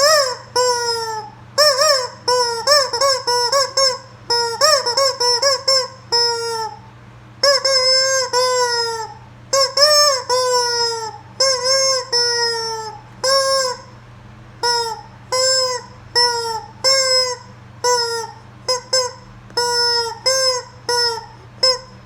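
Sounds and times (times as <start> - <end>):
rubber chicken toy squawking: 0.0 - 14.0, 14.6 - 22.0.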